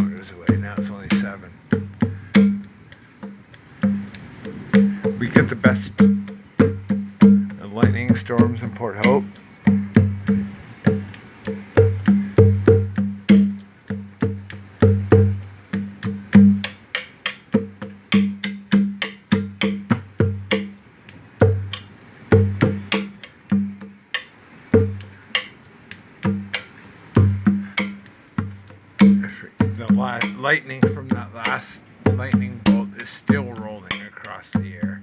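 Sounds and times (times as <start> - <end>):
hand drum strikes: 0.0 - 20.8, 21.4 - 35.0.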